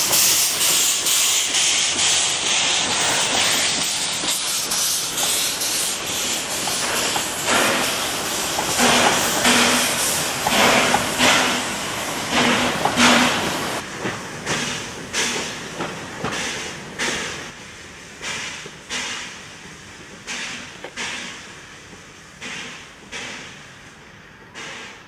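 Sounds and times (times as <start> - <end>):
steam locomotive chuffing: 0.0 - 25.0.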